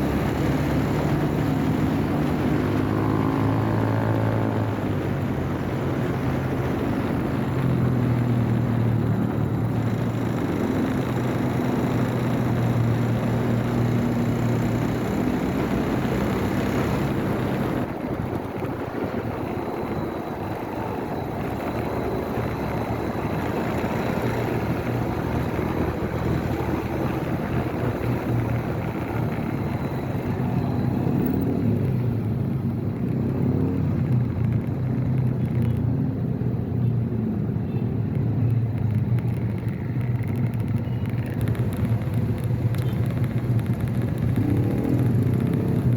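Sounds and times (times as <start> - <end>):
motorcycle engine running: 0.0 - 36.2, 37.6 - 45.9
wind and road noise: 0.0 - 45.9.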